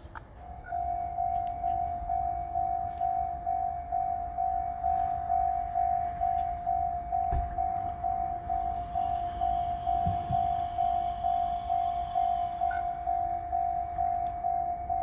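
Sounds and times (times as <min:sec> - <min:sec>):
level crossing alarm ringing: 0:00.0 - 0:15.0.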